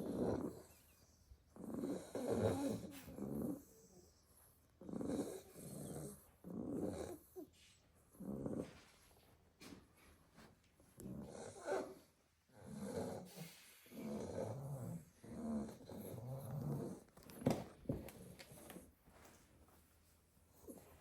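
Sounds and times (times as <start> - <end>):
puppies snoring: 0.0 - 9.2, 10.8 - 18.9.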